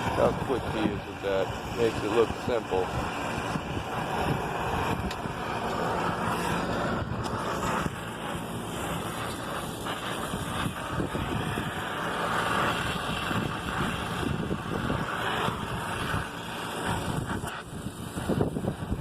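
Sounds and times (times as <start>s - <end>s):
torch hissing: 0.0s - 19.0s.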